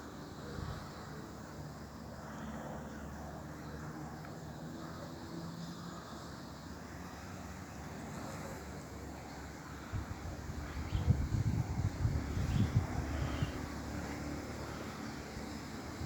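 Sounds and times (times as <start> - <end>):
distant airplane drone: 0.0 - 16.0.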